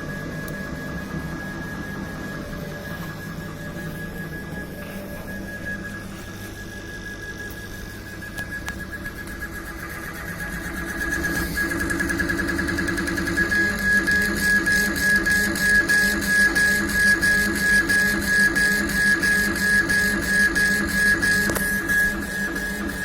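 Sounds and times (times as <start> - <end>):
laser engraver stepper motors whining: 0.0 - 23.0.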